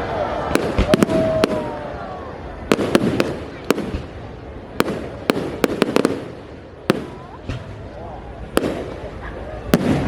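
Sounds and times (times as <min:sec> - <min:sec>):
continuous rumbling: 0:00.0 - 0:10.0
fireworks cracks and bangs: 0:00.4 - 0:02.0, 0:02.6 - 0:07.9, 0:08.5 - 0:10.0.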